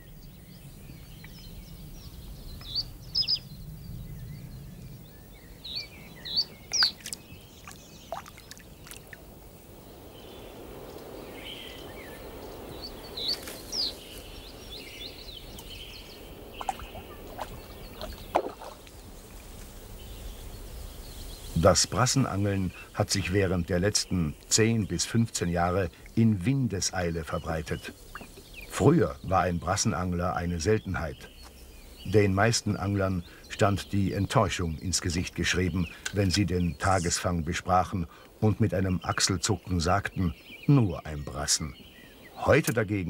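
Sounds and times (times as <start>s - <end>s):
outdoor background noise: 0.0s - 43.0s
small birds chirping: 0.0s - 43.0s.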